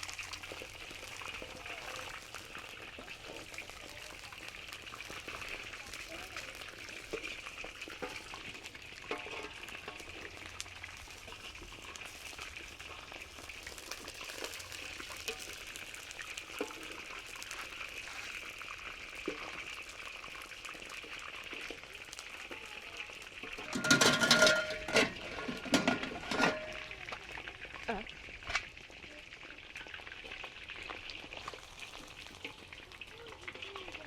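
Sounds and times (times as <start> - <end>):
food sizzling and bubbling: 0.0 - 34.0.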